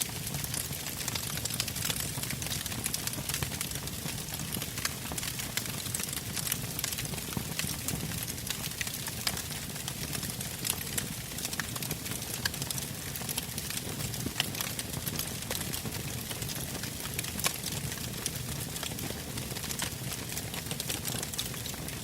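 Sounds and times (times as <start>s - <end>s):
campfire crackling and popping: 0.0s - 22.0s
campfire flames rumbling: 0.0s - 22.0s.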